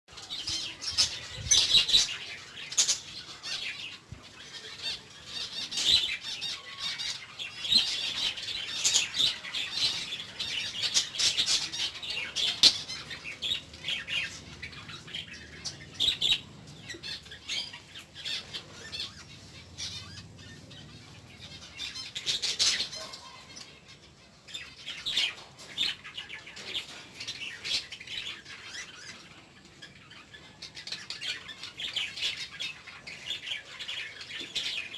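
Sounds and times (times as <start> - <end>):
lovebirds chirping and squawking: 0.1 - 34.9.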